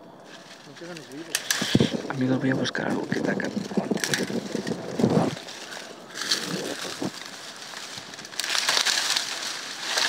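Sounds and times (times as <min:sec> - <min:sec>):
dry vegetation rustling and crackling: 0:00.0 - 0:10.0.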